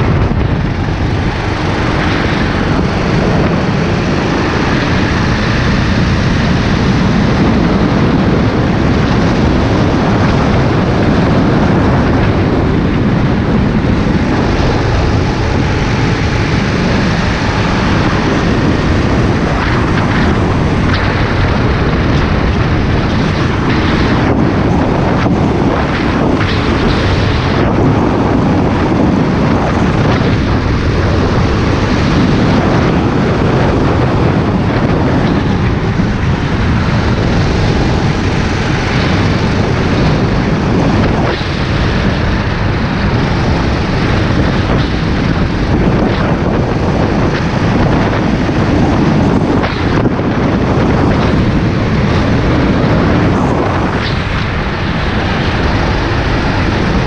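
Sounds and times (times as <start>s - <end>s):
go-kart engine running: 0.0s - 57.0s
wind buffeting microphone: 0.0s - 57.0s.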